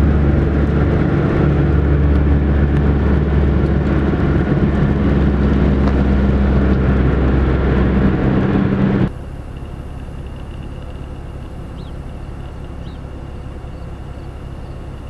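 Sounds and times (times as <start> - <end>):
low rumble: 0.0 - 15.0
road and engine noise in car: 0.0 - 15.0.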